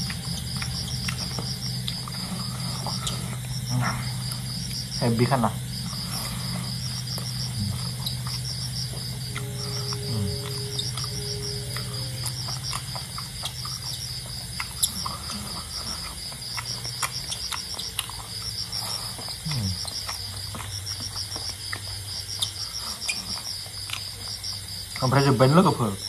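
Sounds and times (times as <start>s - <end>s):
chewing: 0.0s - 5.0s, 5.6s - 25.1s
insect chirping: 0.0s - 26.0s.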